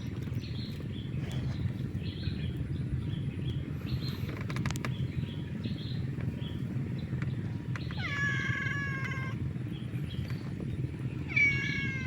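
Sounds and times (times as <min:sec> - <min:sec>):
small bird chirping: 0:00.0 - 0:12.0
steady low rumble: 0:00.0 - 0:12.0.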